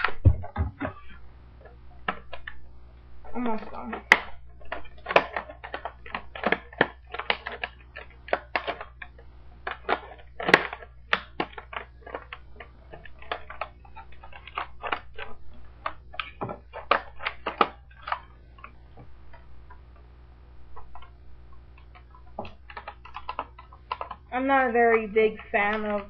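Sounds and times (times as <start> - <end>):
plastic packaging crackling: 0.0 - 19.9, 20.7 - 26.0.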